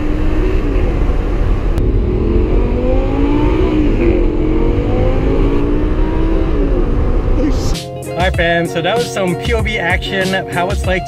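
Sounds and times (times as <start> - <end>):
car engine accelerating: 0.0 - 9.0.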